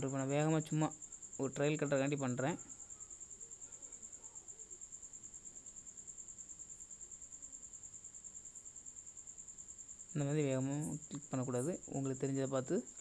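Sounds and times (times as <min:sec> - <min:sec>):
cricket trilling: 0:00.0 - 0:13.0.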